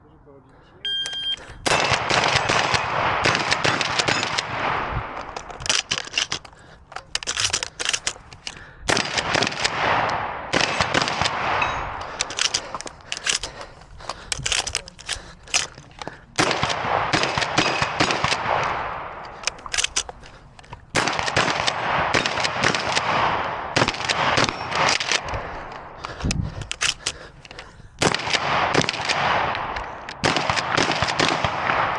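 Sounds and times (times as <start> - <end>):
shotgun pumping clacks: 1.0 - 23.1, 23.8 - 31.3
shotgun shots echoing: 1.4 - 20.3, 20.9 - 26.1, 28.0 - 31.9.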